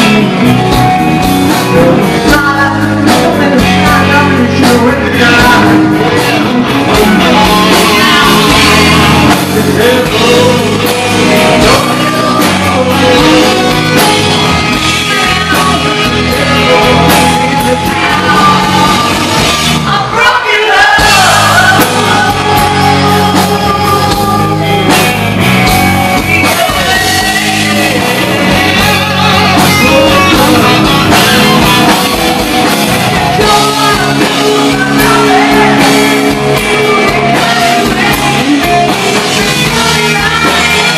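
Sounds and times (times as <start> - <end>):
man singing: 0.0 - 40.9
rock band playing: 0.0 - 40.9.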